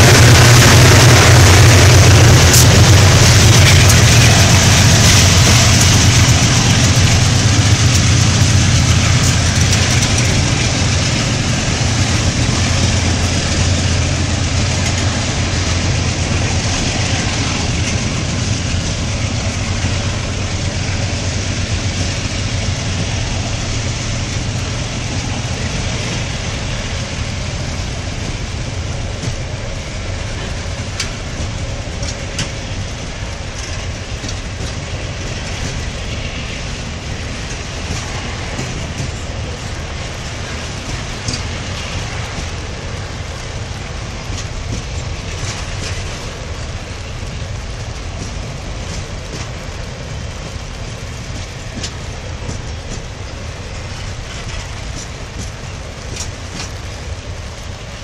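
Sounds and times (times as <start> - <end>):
locomotive diesel engine: 0.0 - 58.0
train wheels rumbling on rails: 0.0 - 58.0.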